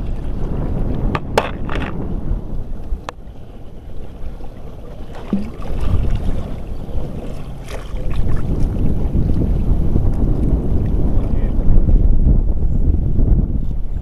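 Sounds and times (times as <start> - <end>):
choppy sea water: 0.0 - 14.0
wind rumbling on microphone: 0.0 - 14.0.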